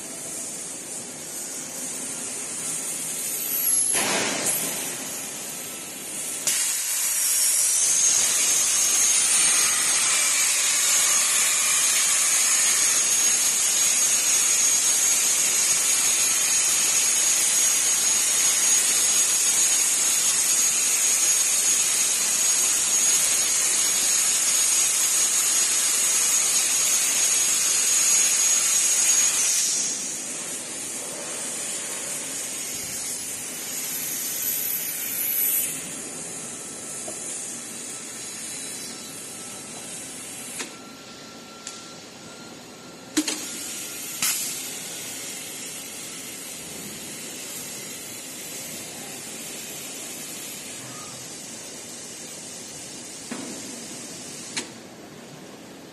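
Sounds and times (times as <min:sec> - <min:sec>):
plasma cutter hissing and whining: 0:00.0 - 0:55.9.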